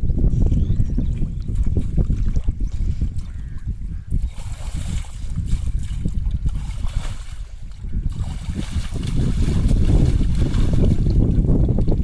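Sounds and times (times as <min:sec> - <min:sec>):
wind rumble on microphone: 0:00.0 - 0:12.0
water splashing and trickling: 0:01.1 - 0:12.0.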